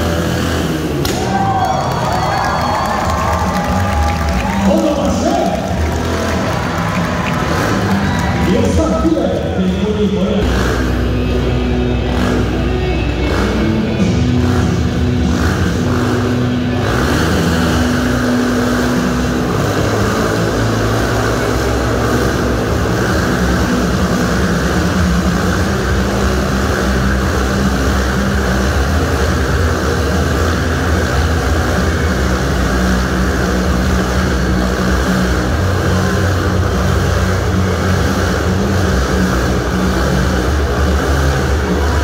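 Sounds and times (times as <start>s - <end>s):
motorcycle engines buzzing: 0.0s - 42.0s.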